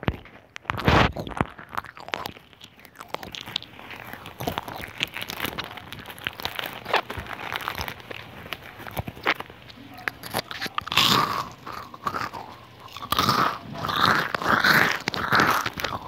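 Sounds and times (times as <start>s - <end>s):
person crunching biscuits: 0.0s - 16.0s.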